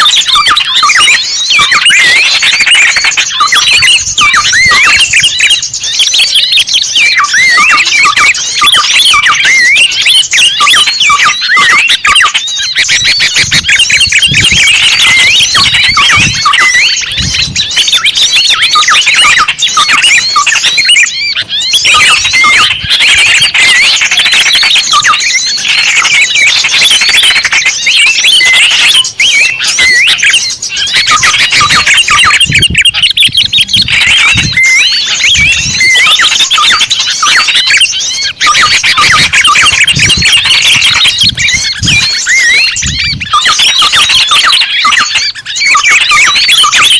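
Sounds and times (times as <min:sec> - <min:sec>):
small birds chirping and twittering: 0:00.0 - 0:46.9.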